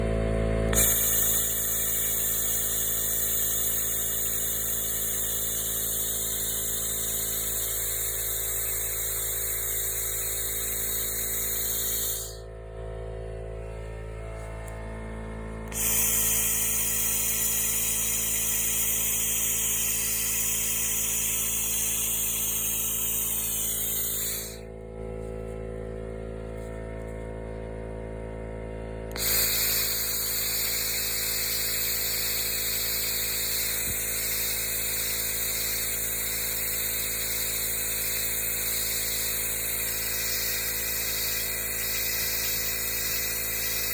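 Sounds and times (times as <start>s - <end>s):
machine hum: 0.0s - 43.9s
laser cleaner buzzing hiss: 0.7s - 12.4s, 15.5s - 24.7s, 29.1s - 43.9s.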